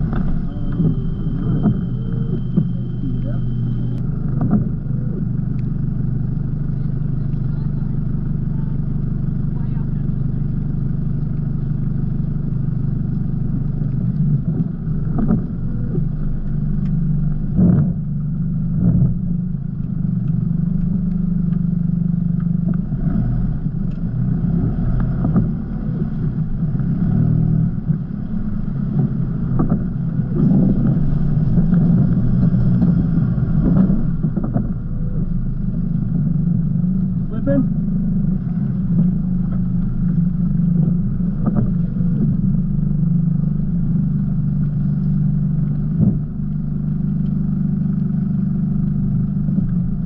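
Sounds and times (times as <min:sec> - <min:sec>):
vehicle thumping over ruts: 0:00.0 - 0:07.1, 0:10.7 - 0:50.0
engine running at low revs: 0:00.0 - 0:50.0.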